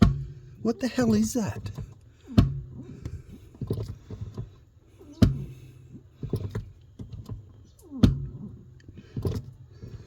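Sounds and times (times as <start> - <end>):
brake booster clunk: 0.0 - 0.6, 1.5 - 10.0.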